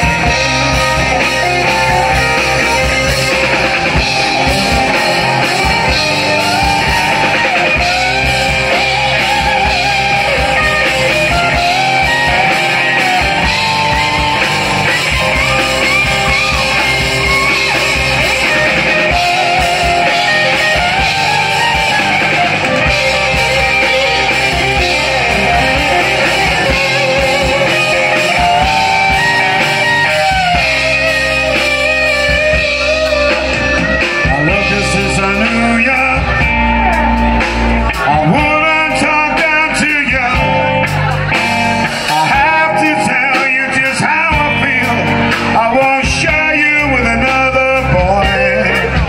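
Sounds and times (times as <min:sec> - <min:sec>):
drums: 0:00.0 - 0:49.0
electric guitars: 0:00.0 - 0:49.0.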